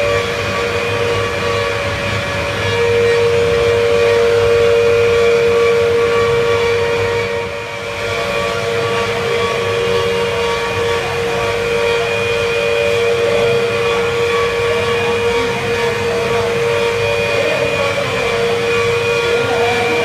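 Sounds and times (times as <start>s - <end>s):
wood router spindle whine: 0.0s - 20.0s.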